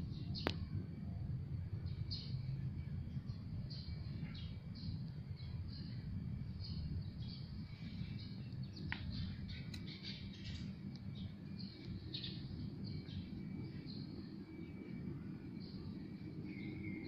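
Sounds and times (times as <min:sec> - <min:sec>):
small birds chirping: 0:01.9 - 0:17.0.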